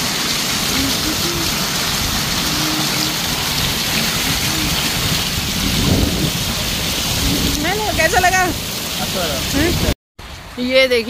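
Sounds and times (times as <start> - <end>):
falling water rushing: 0.0 - 11.0.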